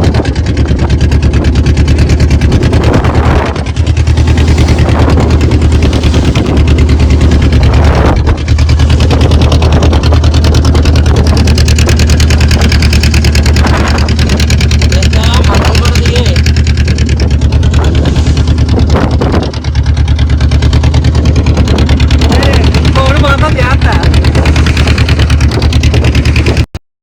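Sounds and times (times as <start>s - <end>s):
boat engine running: 0.0s - 26.8s.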